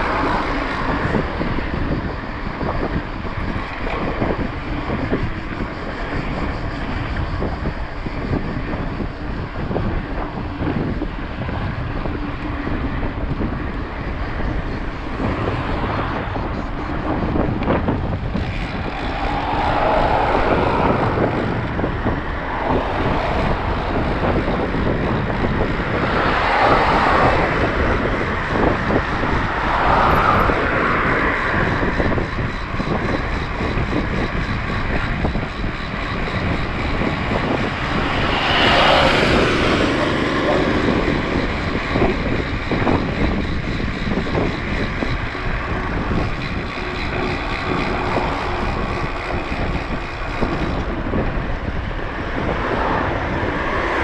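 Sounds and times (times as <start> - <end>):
bike tyres rolling: 0.0 - 54.0
wind rushing on microphone: 0.0 - 54.0.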